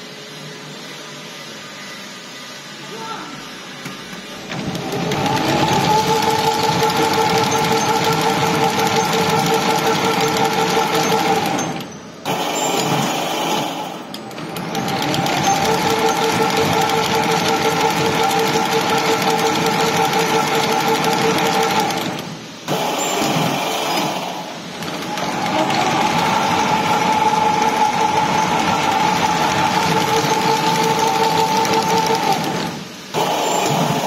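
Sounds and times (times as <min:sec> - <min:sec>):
machine whine: 0:00.0 - 0:34.0
welding machine mechanical clatter: 0:03.7 - 0:34.0.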